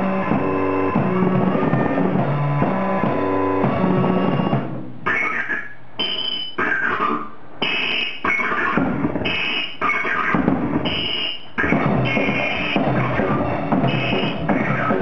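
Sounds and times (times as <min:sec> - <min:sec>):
drum kit: 0:00.0 - 0:15.0
keyboard synthesizer: 0:00.0 - 0:15.0.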